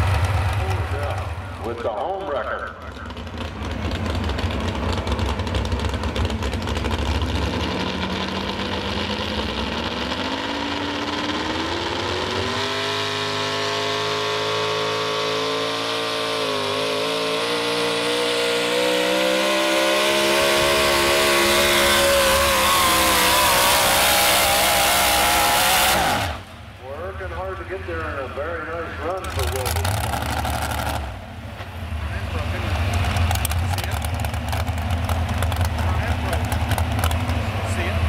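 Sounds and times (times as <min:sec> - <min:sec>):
truck engine revving at full throttle: 0:00.0 - 0:38.0.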